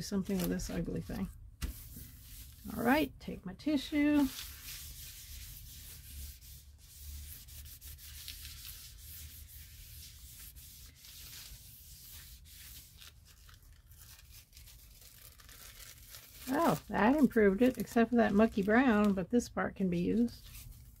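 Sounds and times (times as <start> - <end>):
tissue rubbing on paper: 0.2 - 3.0, 3.7 - 18.8, 20.1 - 21.0.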